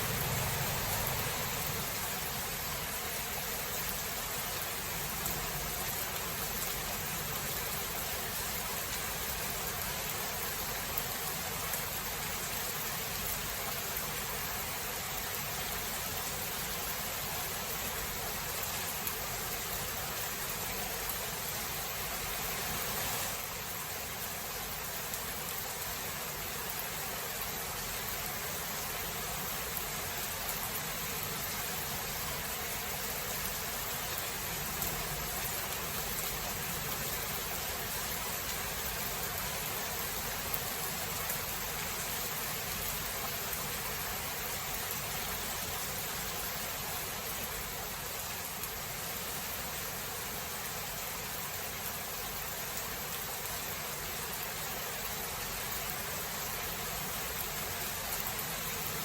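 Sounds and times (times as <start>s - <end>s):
faint ticks of raindrops: 0.0s - 59.0s
heavy rain hissing: 0.0s - 59.0s.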